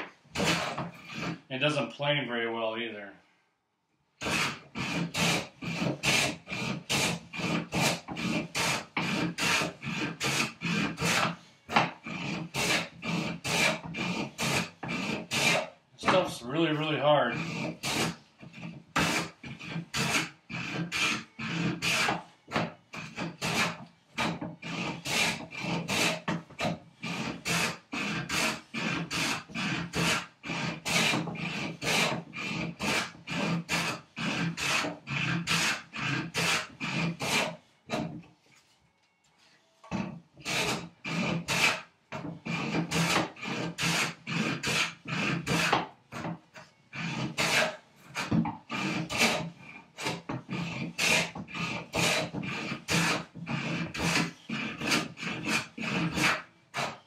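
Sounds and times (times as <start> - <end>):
hand plane shaving wood: 0.0 - 1.5, 4.2 - 38.2, 39.8 - 57.0.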